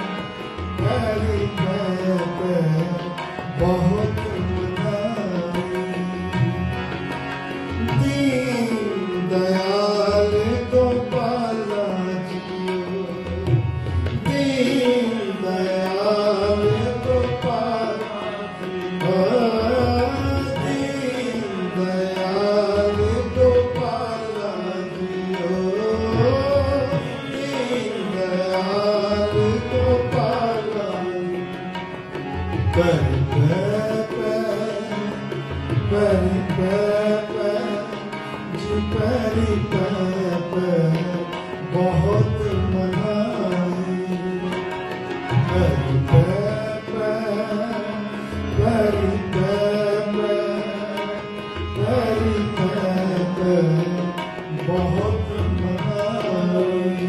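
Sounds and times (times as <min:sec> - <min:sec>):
harmonium: 0:00.0 - 0:57.0
tabla rhythm: 0:00.0 - 0:57.0.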